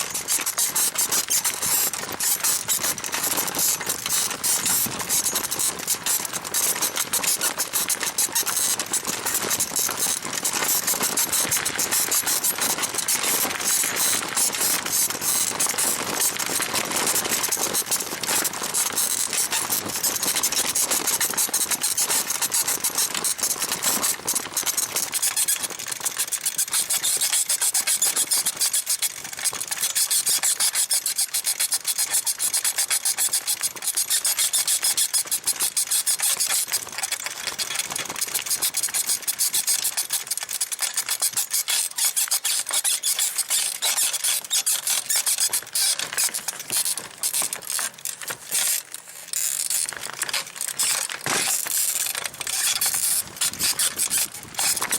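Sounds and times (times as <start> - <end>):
bicycle saddle springs squeaking: 0.0 - 16.4, 17.0 - 54.9.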